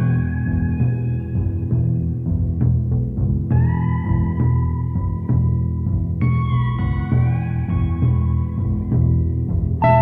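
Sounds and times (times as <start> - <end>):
ambient instrumental music: 0.0 - 10.0.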